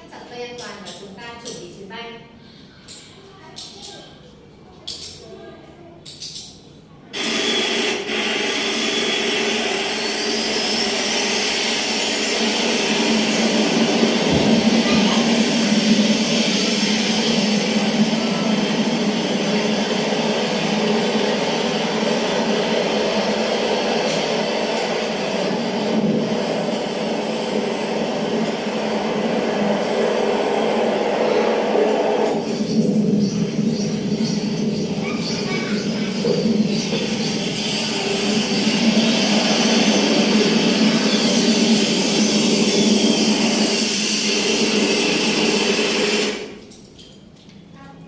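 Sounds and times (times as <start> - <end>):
jet engine rushing: 7.1 - 46.8
rising whine: 7.2 - 46.7.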